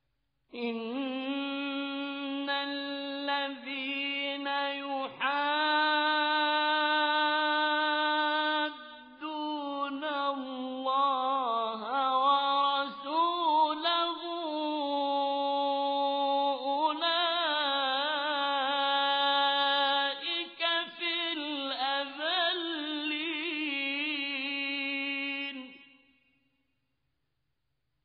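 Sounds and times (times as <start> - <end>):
man chanting melodically: 0.6 - 25.8.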